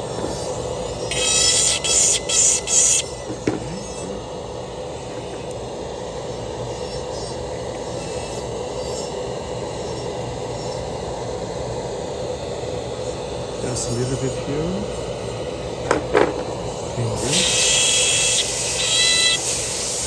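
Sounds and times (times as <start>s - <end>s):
machine hum with whine: 0.0s - 20.0s.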